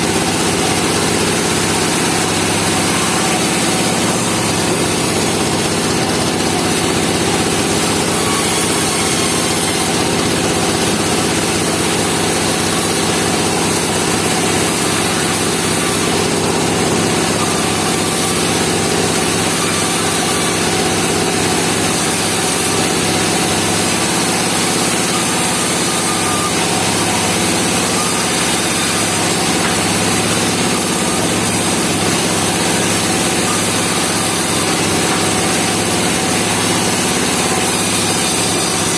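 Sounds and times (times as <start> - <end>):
sawmill engine drone: 0.0 - 38.9.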